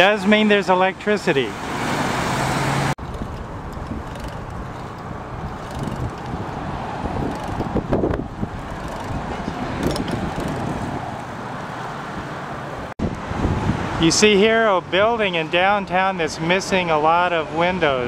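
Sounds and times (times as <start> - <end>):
car road and wind noise: 0.9 - 18.0.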